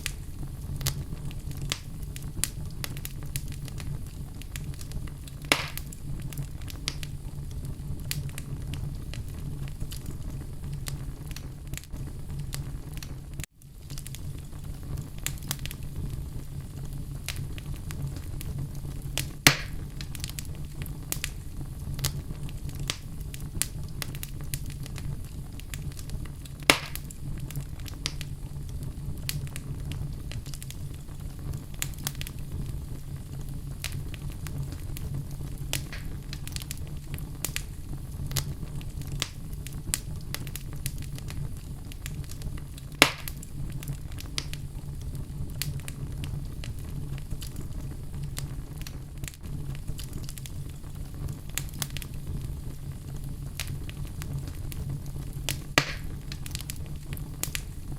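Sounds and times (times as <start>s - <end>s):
fire burning in a fireplace: 0.0s - 57.9s
loud fire pops: 0.0s - 57.9s.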